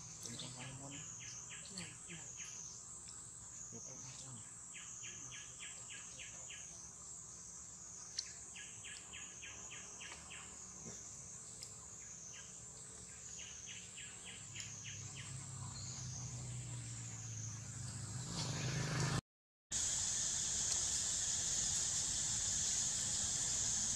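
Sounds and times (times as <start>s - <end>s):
insects droning: 0.0s - 19.1s, 19.7s - 23.9s.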